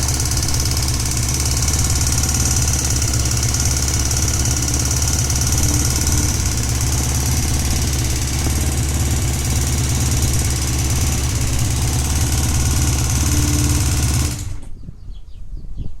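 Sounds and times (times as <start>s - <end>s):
motorcycle engine idling: 0.0s - 14.8s
abnormal mechanical engine noise: 0.0s - 14.9s.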